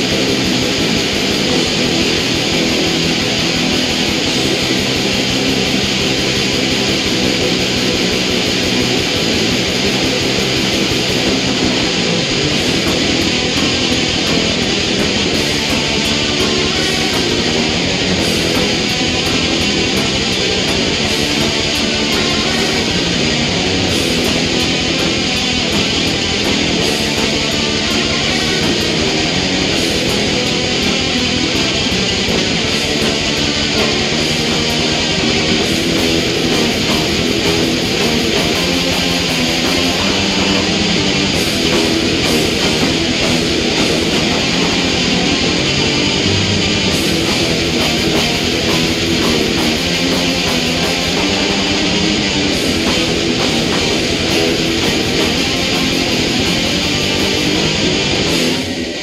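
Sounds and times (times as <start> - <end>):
distorted electric guitars: 0.0 - 59.0
drums: 0.0 - 59.0
heavy metal music: 0.0 - 59.0.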